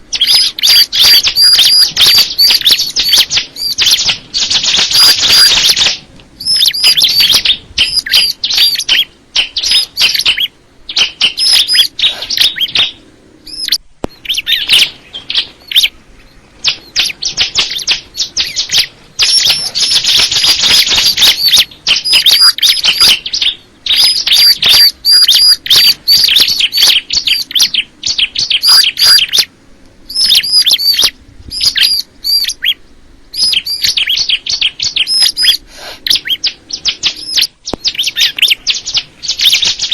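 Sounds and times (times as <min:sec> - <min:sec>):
bird singing high chirping notes: 0:00.1 - 0:29.5, 0:30.1 - 0:39.9.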